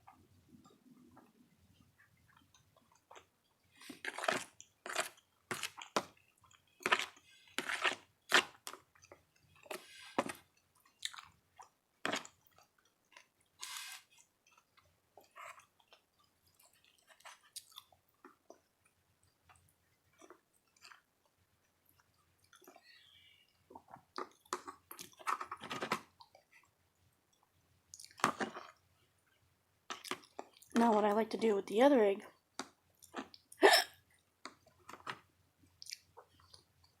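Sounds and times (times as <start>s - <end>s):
chewing food with crunches: 0.1s - 30.8s, 32.4s - 37.0s.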